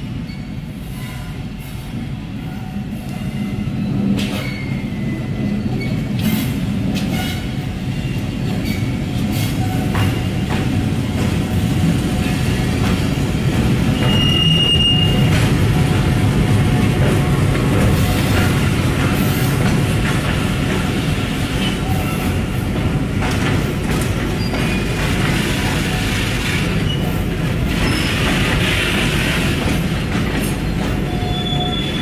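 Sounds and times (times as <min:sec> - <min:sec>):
diesel locomotive and train rumbling: 0:00.0 - 0:32.0.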